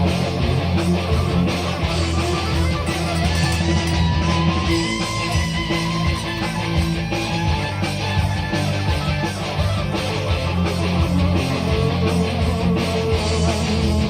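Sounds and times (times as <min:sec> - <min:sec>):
guitar jamming: 0:00.0 - 0:13.8.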